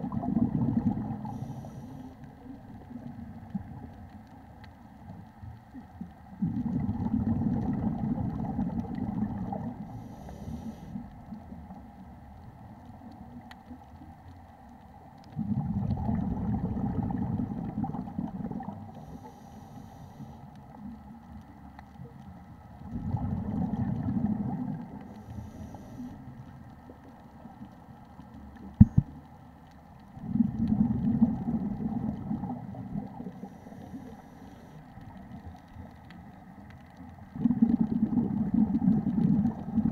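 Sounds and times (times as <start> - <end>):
underwater exhaled bubbles rumbling: 0.0 - 39.9.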